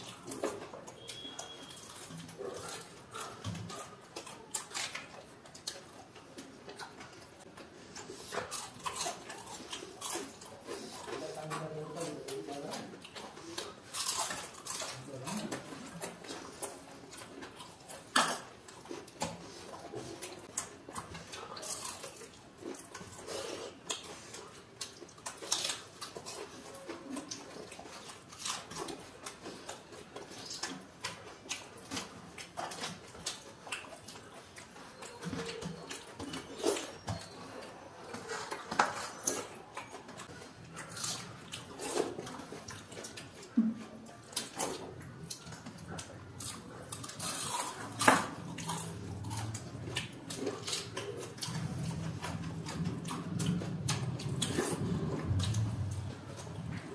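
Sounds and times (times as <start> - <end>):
chewing: 0.0 - 56.9.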